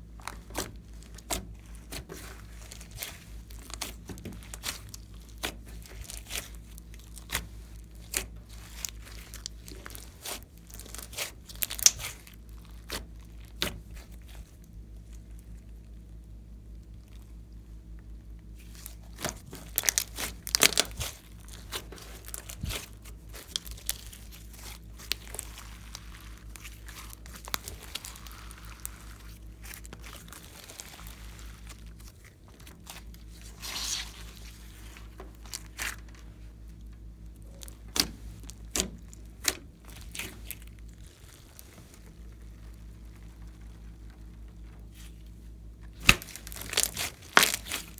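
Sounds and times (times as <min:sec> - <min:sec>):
steady low hum: 0:00.0 - 0:47.9
sticky slime squelching: 0:00.0 - 0:47.9.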